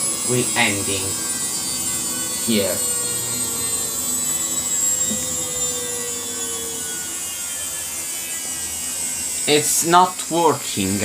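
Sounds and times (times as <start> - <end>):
tone dropping in pitch: 0.0 - 9.4
washing machine motor hum and whine: 0.0 - 11.0.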